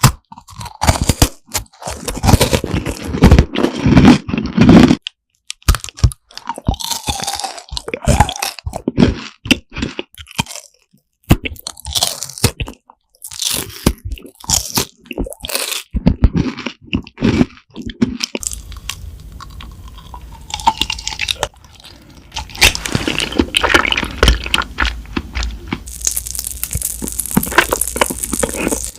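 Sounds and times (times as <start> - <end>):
crunching and chewing crisp food: 0.0 - 28.9.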